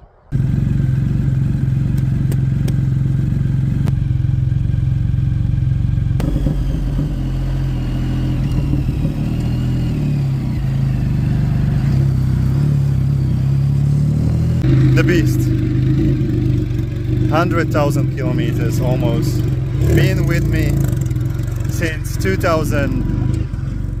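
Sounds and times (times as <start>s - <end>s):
motorcycle engine running: 0.3s - 24.0s.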